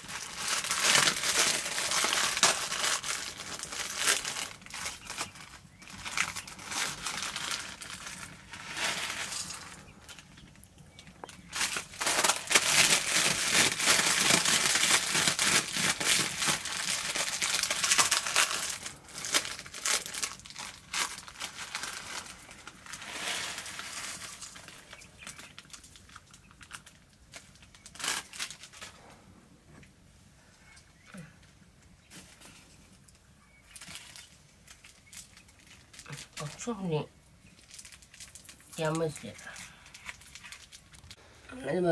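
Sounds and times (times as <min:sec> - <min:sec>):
plastic wrapper crinkling: 0:00.0 - 0:29.1, 0:31.8 - 0:41.2.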